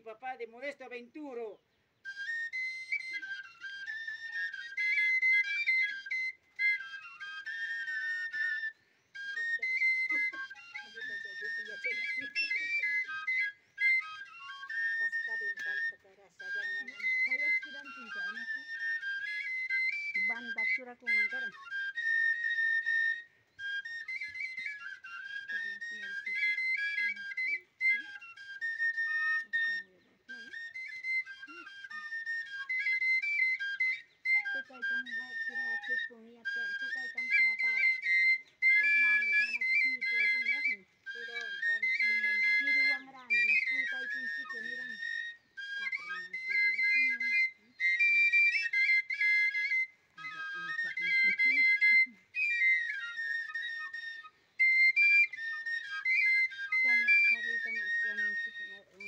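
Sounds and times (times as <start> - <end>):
cane flutes playing melody: 0.0 - 59.0.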